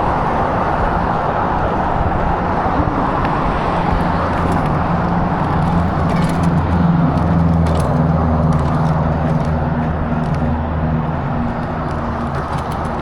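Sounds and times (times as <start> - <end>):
rushing wind and road noise: 0.0 - 13.0
vehicle engine hum: 0.3 - 13.0.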